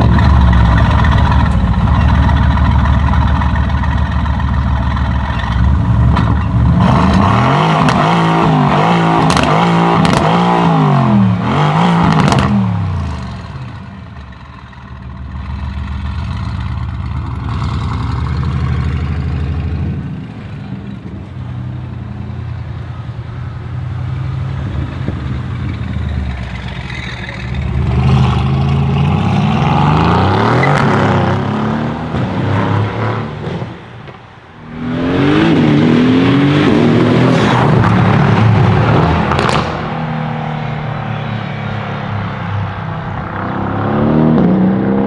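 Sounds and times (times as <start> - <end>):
loud car engine accelerating: 0.0 - 14.6, 15.2 - 45.0.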